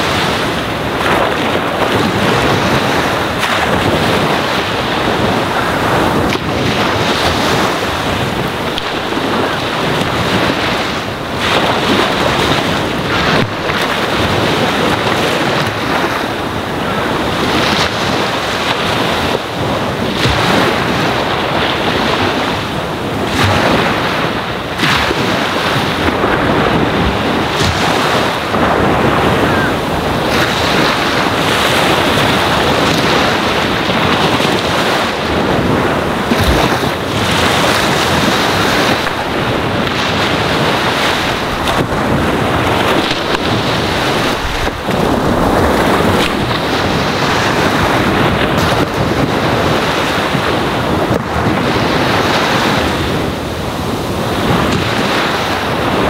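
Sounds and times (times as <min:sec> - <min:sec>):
ocean waves washing onto shore: 0:00.0 - 0:56.0.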